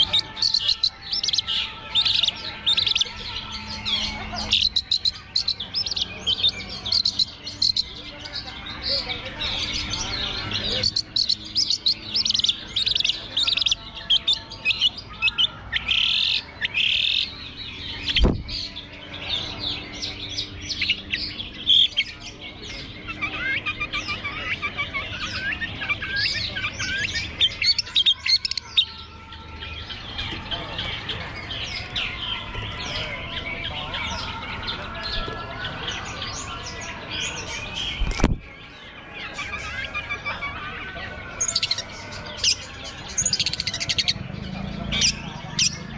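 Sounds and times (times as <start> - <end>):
bird singing chirps and chatter: 0.0 - 45.9.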